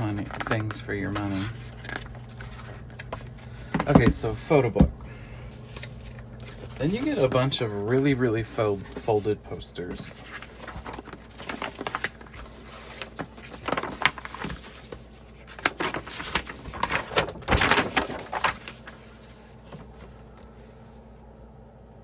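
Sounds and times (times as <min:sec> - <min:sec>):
paper rustling and crinkling: 0:00.0 - 0:21.1.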